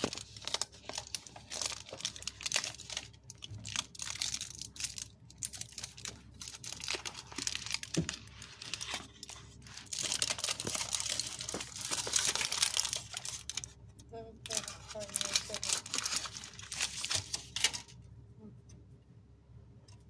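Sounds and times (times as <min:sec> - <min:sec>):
foil wrapper crinkling: 0:00.0 - 0:13.8, 0:14.4 - 0:18.0.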